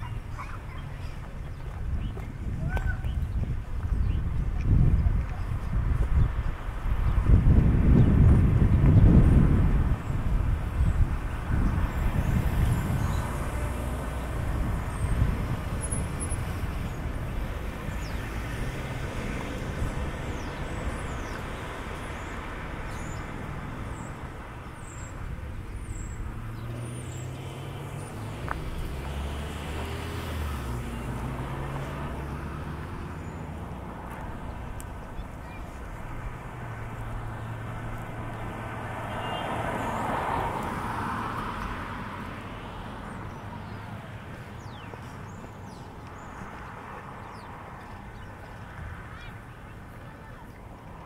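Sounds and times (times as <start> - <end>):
engine humming: 6.4 - 51.0
vehicle passing: 6.5 - 51.0.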